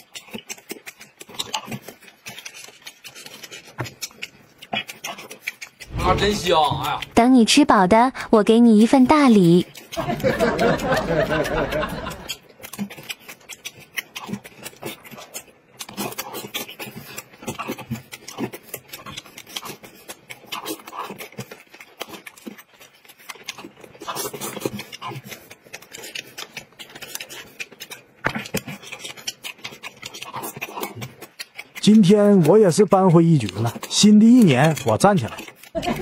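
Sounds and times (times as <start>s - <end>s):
man chewing and slurping noodles: 0.0s - 7.2s, 8.8s - 36.0s.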